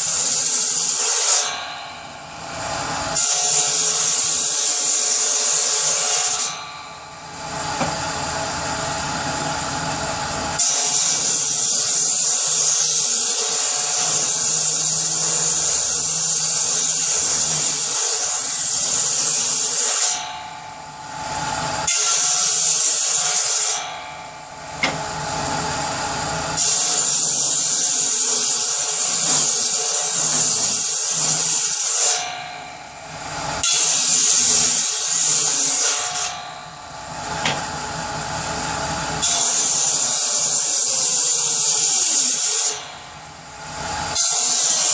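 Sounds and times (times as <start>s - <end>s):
power saw cutting wood: 0.0s - 44.9s.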